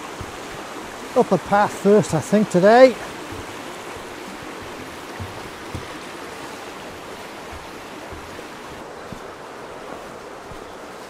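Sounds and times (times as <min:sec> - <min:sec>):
soft low thumps: 0:00.0 - 0:09.4
river rushing: 0:00.0 - 0:11.0.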